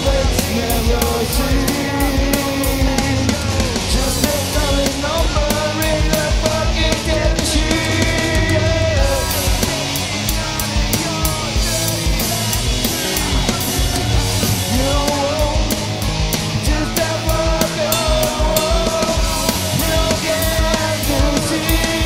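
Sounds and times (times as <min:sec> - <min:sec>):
rock song with guitars and drums: 0:00.0 - 0:22.0
wavering sung vocal: 0:00.0 - 0:22.0.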